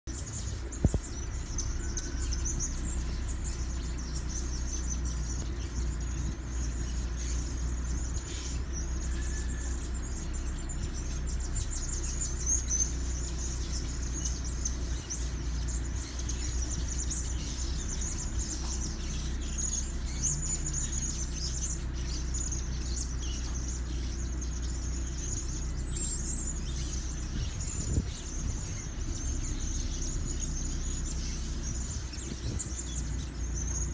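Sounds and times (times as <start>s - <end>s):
low rumble: 0.1s - 33.9s
parrots chirping: 0.1s - 33.9s.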